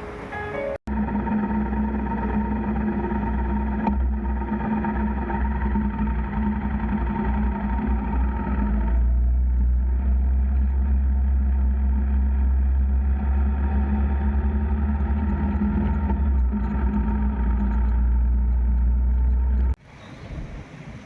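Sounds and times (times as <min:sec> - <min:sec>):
motorcycle engine drone: 0:00.0 - 0:21.0.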